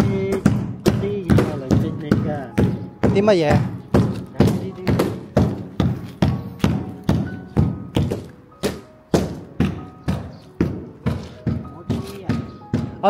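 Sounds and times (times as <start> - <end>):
deep knocking: 0.0 - 13.0.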